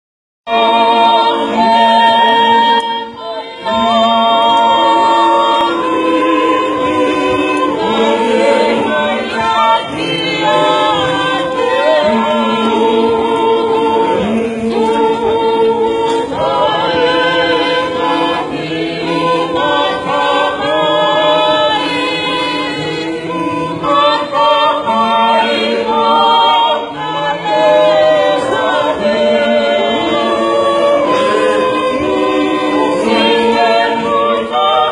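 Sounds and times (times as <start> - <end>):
church choir singing a cappella: 0.5 - 34.9.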